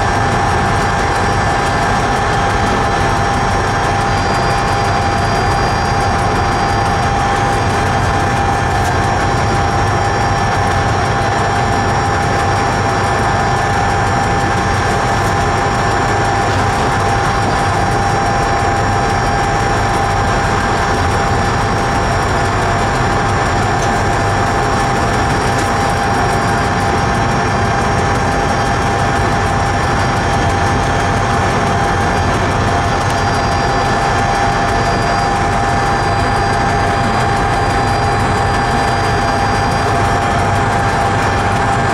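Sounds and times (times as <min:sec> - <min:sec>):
train running through tunnel: 0:00.0 - 0:41.9.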